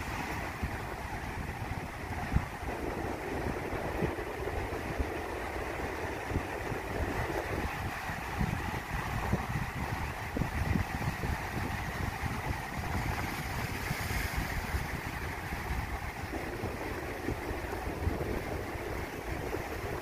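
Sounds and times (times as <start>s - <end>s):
ocean surf breaking over rocks: 0.0s - 20.0s
wind buffeting microphone: 0.0s - 20.0s.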